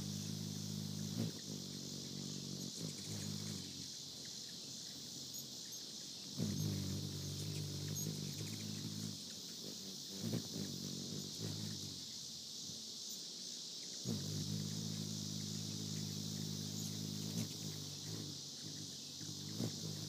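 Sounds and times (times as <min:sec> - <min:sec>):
hummingbird wings humming: 0:00.0 - 0:20.0
insects chirring: 0:00.0 - 0:20.0.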